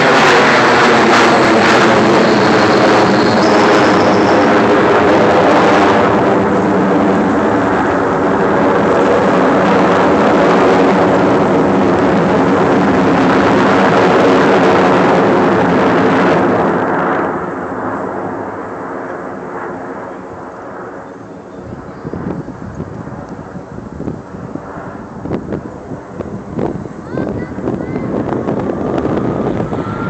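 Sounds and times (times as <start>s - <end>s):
aircraft engine passing: 0.0s - 30.0s.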